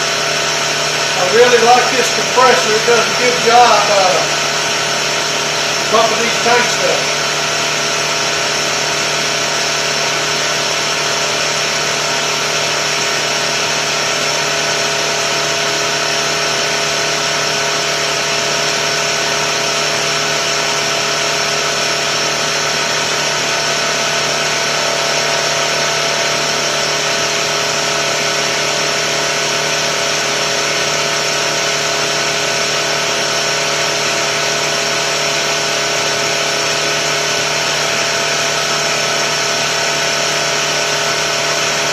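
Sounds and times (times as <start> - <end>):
air compressor humming and whining: 0.0 - 41.9.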